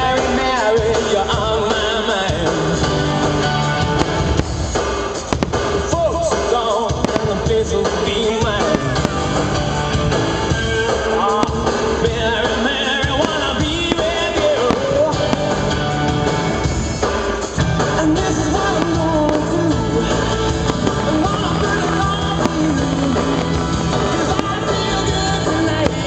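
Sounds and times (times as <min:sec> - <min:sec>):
rock and roll song with singing: 0:00.0 - 0:26.0.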